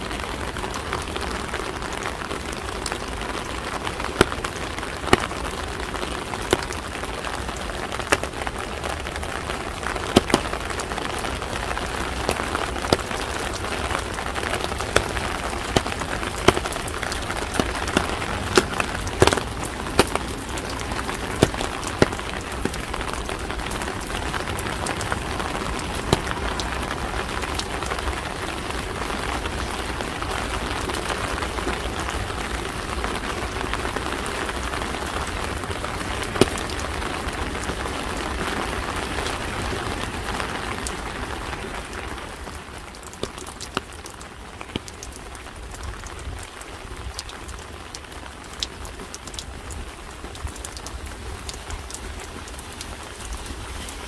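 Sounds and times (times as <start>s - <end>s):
rain on street: 0.0s - 54.0s.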